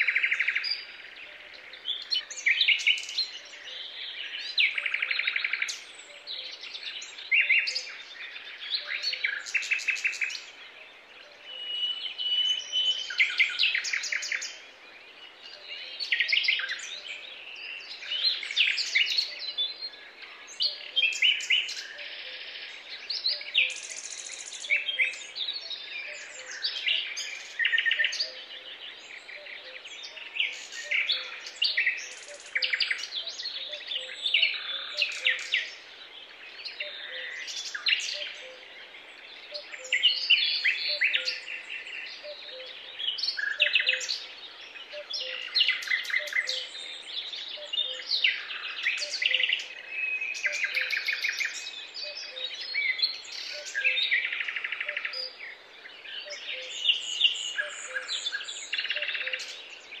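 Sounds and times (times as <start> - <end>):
songbirds chirping and trilling: 0.0 - 60.0.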